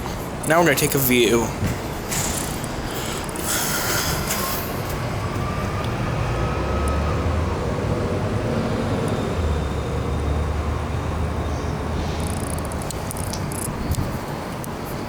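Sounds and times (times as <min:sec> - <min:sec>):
distant city traffic: 0:00.0 - 0:15.0
wind: 0:00.0 - 0:15.0.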